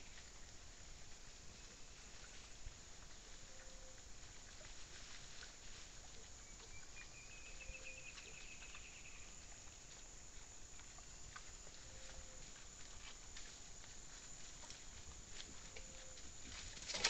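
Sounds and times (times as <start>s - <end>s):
animals rooting in dry leaves: 0.0s - 17.0s.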